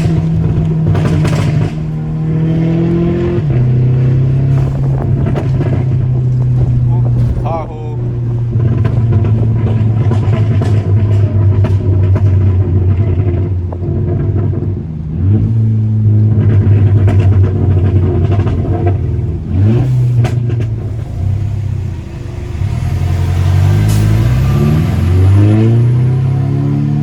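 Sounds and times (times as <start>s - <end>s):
car engine and exhaust under load: 0.0s - 27.0s
exhaust cracks: 0.0s - 27.0s.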